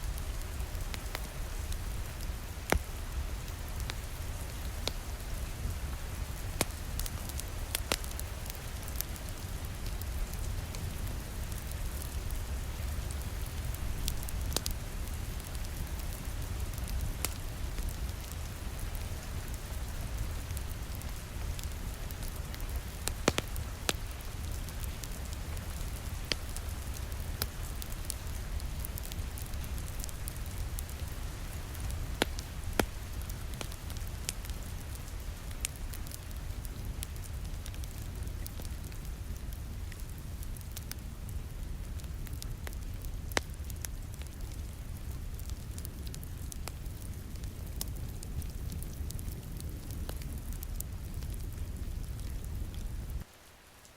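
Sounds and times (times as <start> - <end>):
steady rain: 0.0 - 53.9
wood fire crackling and popping: 0.0 - 53.9.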